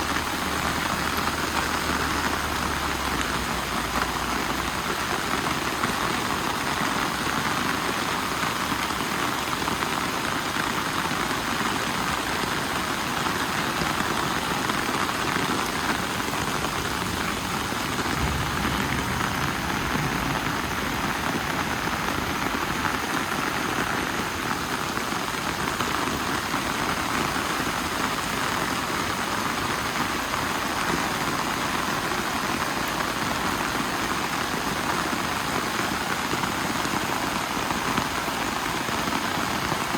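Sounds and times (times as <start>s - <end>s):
loud rain falling: 0.0s - 39.9s.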